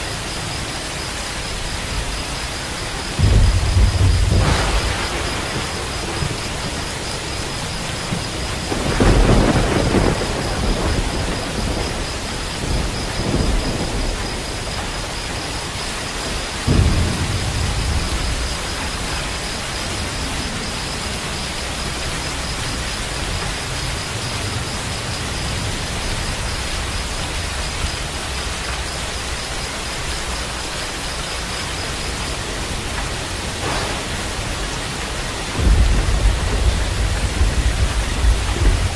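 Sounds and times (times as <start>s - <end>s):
heavy rain: 0.0s - 38.9s
thunder rumbling: 0.0s - 38.9s.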